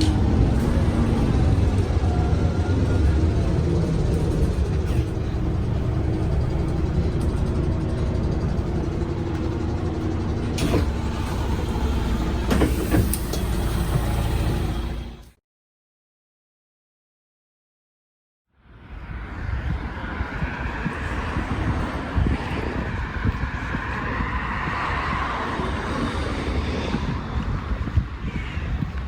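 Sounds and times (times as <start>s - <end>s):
bus engine and road rumble: 0.0s - 15.4s, 18.6s - 29.0s.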